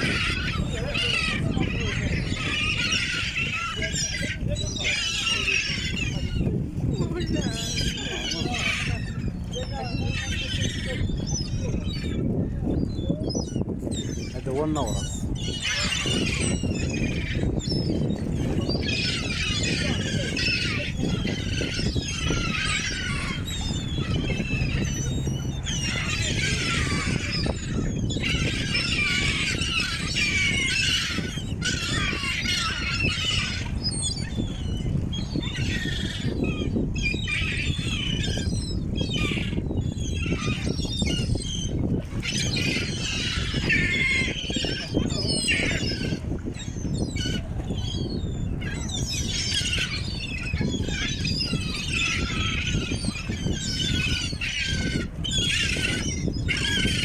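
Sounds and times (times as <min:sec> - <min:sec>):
gulls calling: 0:00.0 - 0:57.0.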